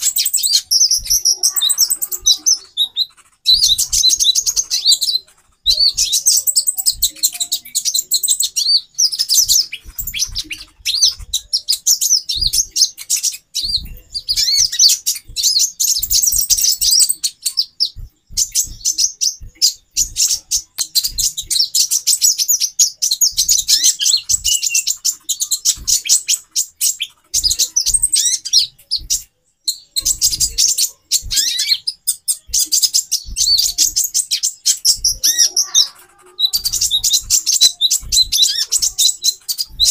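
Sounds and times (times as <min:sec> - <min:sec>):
sunbirds chittering: 0:00.0 - 0:39.9.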